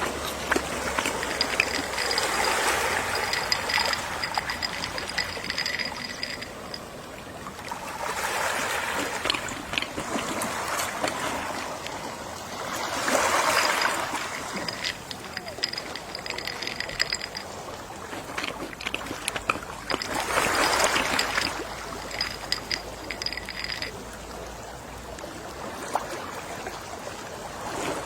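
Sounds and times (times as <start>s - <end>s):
gentle sea waves washing ashore: 0.0s - 28.0s.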